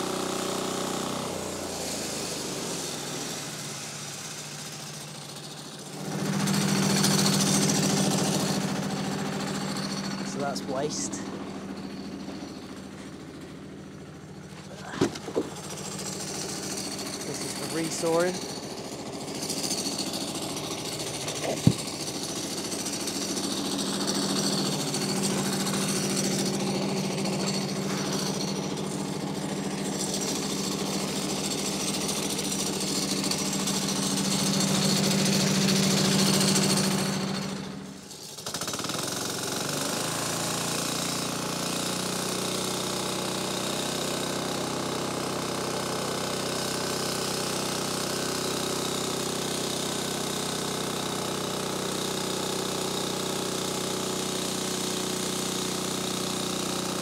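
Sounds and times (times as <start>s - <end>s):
bandsaw mill sawing log: 0.0s - 57.0s.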